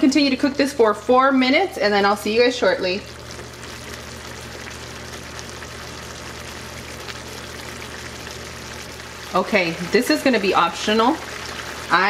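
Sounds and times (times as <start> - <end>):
low steady hum: 0.0 - 12.0
sauce bubbling and sizzling: 2.2 - 12.0.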